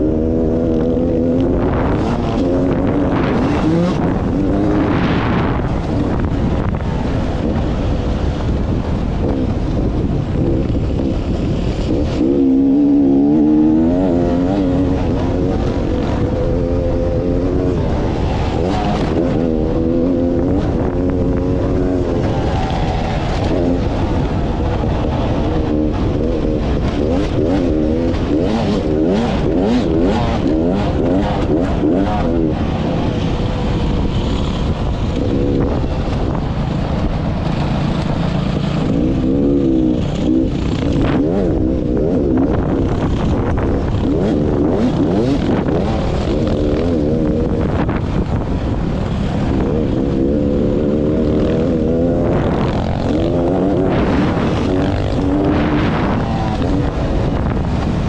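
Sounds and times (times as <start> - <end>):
dirt bike engine revving hard: 0.0 - 58.0.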